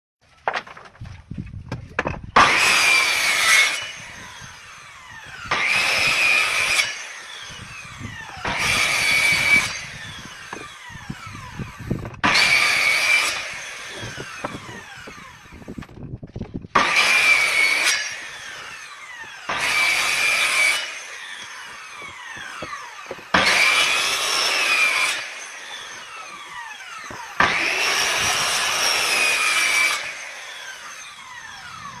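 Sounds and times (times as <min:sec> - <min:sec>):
power tool cutting wood with whine: 0:02.4 - 0:16.0, 0:16.7 - 0:32.0.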